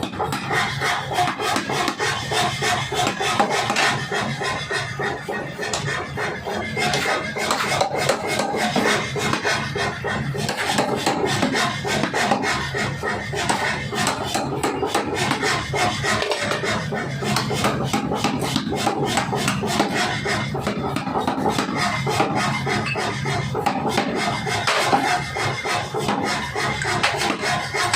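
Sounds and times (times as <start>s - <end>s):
forging hammer striking steel: 0.0s - 9.8s, 13.1s - 27.9s.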